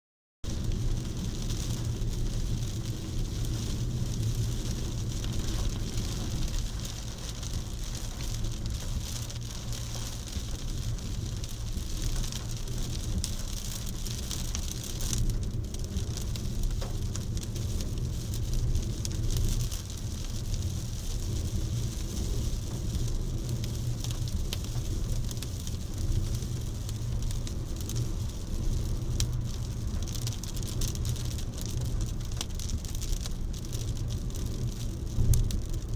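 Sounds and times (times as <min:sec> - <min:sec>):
low rumble: 0:00.4 - 0:35.9
steady rain falling: 0:00.4 - 0:35.9.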